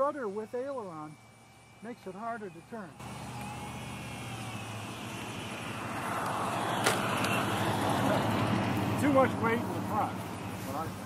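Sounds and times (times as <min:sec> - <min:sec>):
electric motor and propeller running: 0:00.0 - 0:11.0.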